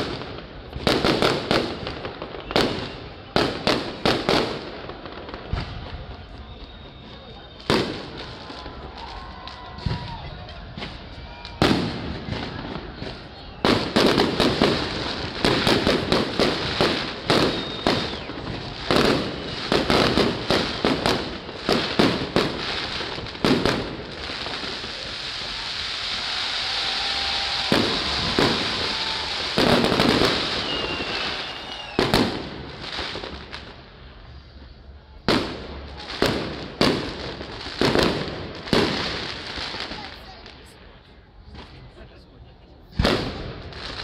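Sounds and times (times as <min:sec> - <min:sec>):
fireworks whistles: 0:00.0 - 0:40.8
fireworks bangs: 0:00.0 - 0:42.0, 0:42.8 - 0:44.0
fireworks crackling hiss: 0:00.0 - 0:44.0.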